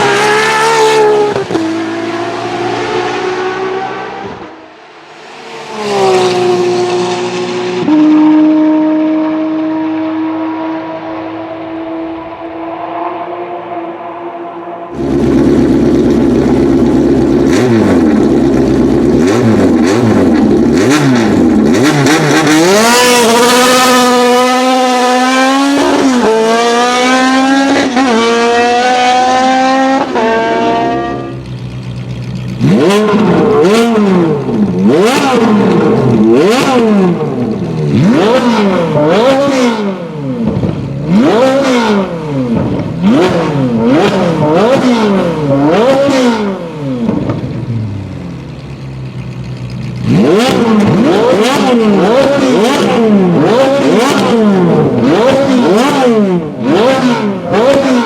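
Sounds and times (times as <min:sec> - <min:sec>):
race car engine accelerating: 0:00.0 - 0:48.0, 0:49.9 - 0:58.0
race car engine revving: 0:00.0 - 0:58.0.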